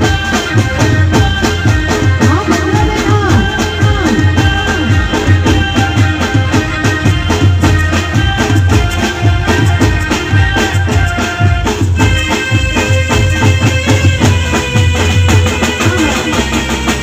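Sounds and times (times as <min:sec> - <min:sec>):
drum beat: 0:00.0 - 0:17.0
keyboard melody: 0:00.0 - 0:17.0.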